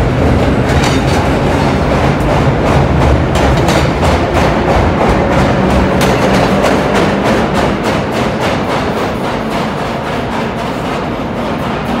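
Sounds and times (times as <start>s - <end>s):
train wheels clacking on rails: 0.0s - 12.0s.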